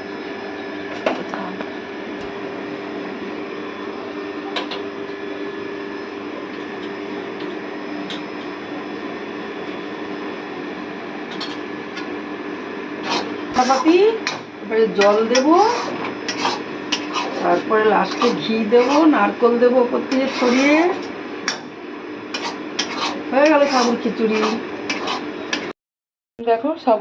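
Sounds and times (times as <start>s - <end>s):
steady mechanical hum: 0.0s - 25.7s.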